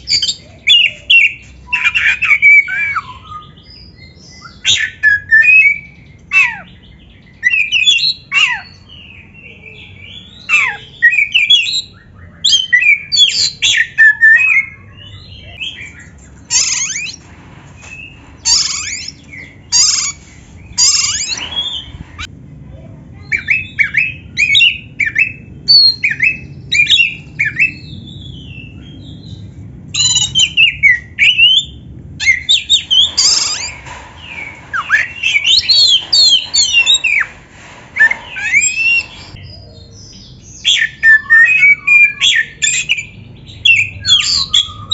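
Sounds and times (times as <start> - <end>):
bird singing varied song: 0.0 - 17.2, 17.8 - 22.3, 23.2 - 37.3, 38.0 - 44.9.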